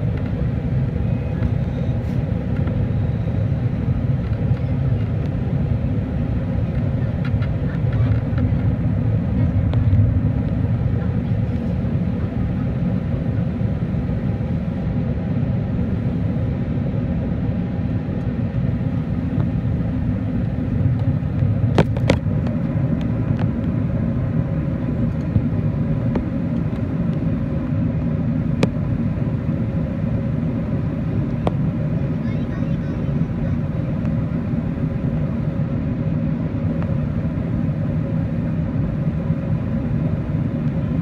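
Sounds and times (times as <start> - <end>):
airplane cabin engine rumble: 0.0 - 41.0.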